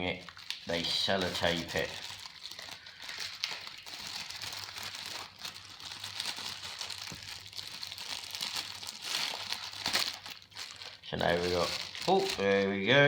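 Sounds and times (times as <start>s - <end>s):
plastic wrap and tape crinkling: 0.0s - 13.0s.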